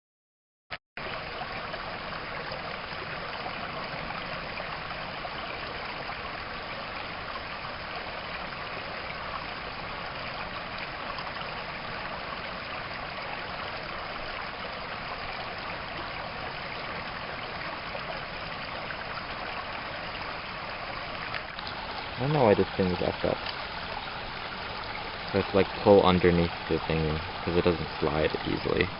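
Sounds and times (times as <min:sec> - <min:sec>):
stream flowing: 0:01.0 - 0:28.9.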